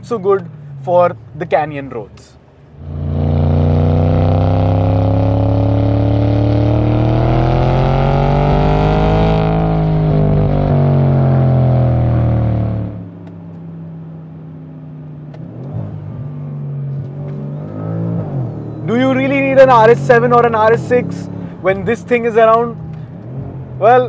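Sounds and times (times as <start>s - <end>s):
car engine accelerating: 2.6s - 14.0s, 15.0s - 23.9s.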